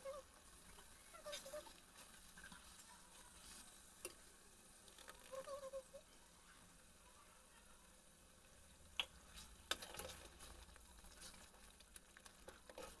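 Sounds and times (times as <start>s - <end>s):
paste sizzling in oil: 0.0s - 7.1s, 7.8s - 13.0s.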